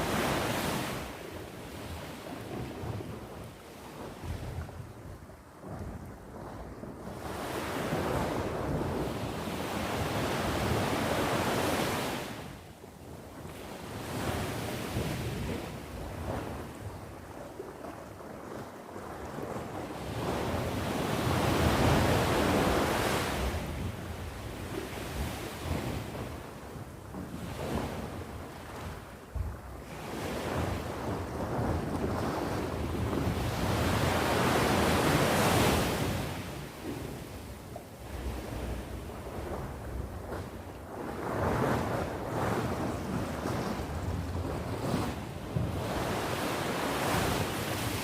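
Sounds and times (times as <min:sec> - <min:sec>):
ocean waves breaking on shore: 0:00.0 - 0:48.0
wind on microphone: 0:00.0 - 0:48.0.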